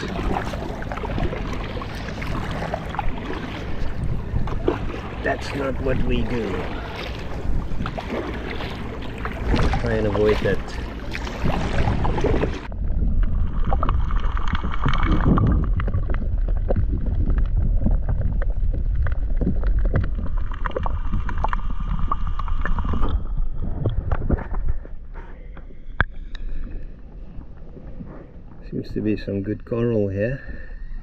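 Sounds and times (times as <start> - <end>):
wind buffeting microphone: 0.0 - 25.1
water splashing and sloshing: 0.0 - 31.0.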